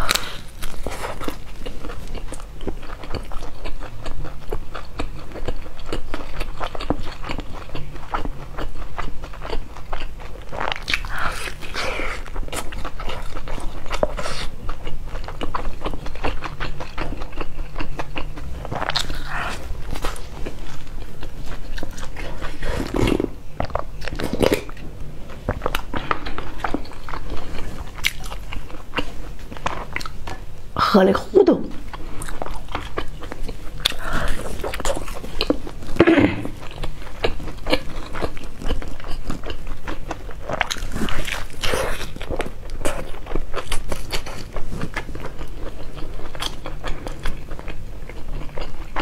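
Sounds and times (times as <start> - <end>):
chewing and crunching flatbread: 0.0 - 30.7, 31.7 - 49.0.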